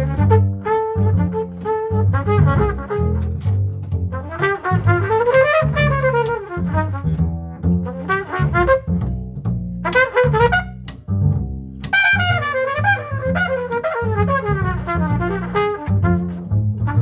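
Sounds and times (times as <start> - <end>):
jazz trumpet solo: 0.0 - 9.1, 9.8 - 11.0, 11.8 - 17.0
plucked double bass: 0.0 - 17.0.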